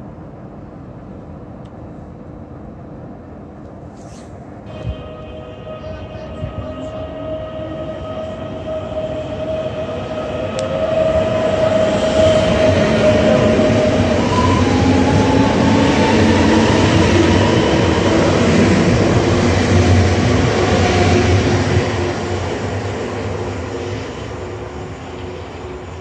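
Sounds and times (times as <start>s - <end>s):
train wheels rushing on rail: 0.0s - 26.0s.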